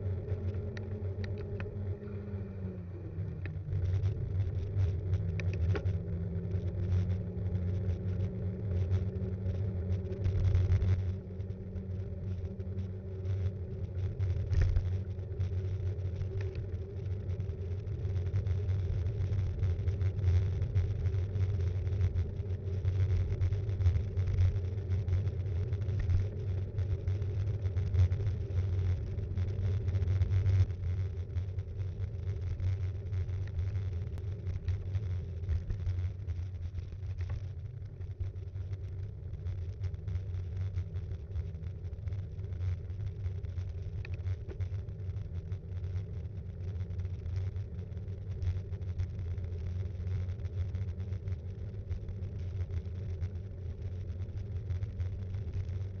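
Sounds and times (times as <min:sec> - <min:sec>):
low road rumble: 0:00.0 - 0:56.0.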